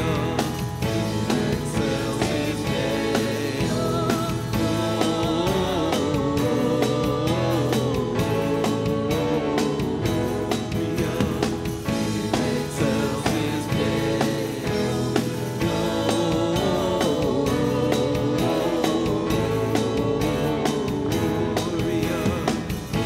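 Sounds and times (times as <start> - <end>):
live band playing worship song: 0.0 - 23.0
person singing: 0.0 - 23.0.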